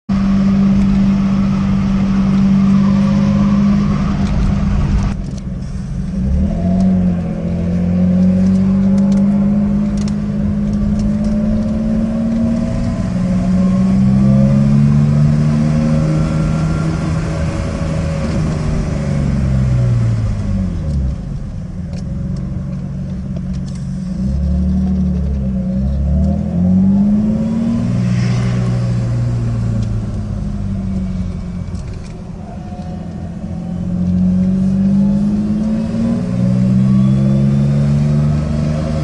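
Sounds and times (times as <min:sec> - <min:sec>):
car engine accelerating hard: 0:00.1 - 0:39.0.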